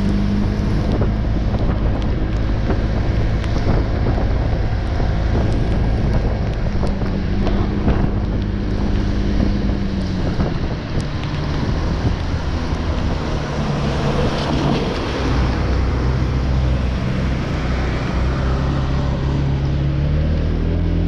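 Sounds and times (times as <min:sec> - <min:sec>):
wind buffeting microphone: 0:00.0 - 0:19.7
tyres hissing on wet road: 0:00.0 - 0:21.0.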